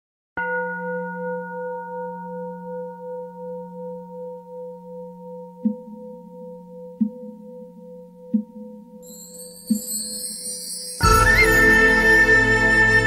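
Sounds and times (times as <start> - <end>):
singing bowl ringing: 0.4 - 11.8.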